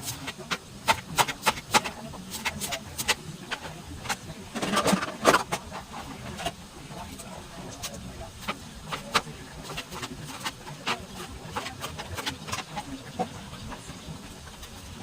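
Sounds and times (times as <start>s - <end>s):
kitchen utensils clattering: 0.0s - 15.0s.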